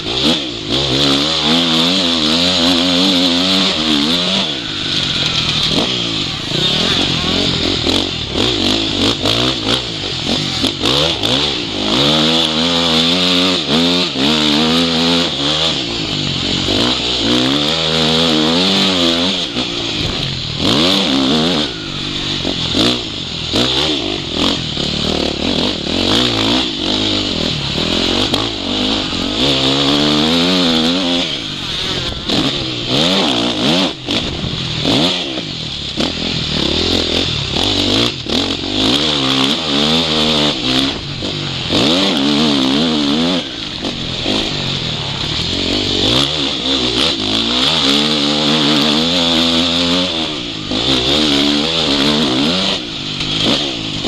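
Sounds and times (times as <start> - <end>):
constant rushing noise: 0.0 - 54.0
motocross bike engine revving: 0.0 - 54.0.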